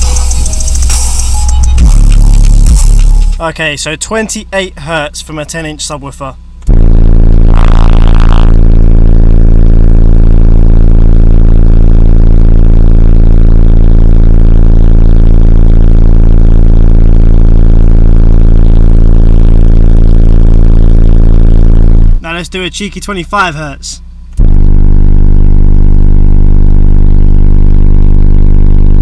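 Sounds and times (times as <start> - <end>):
subwoofer playing low test tone: 0.0 - 29.0.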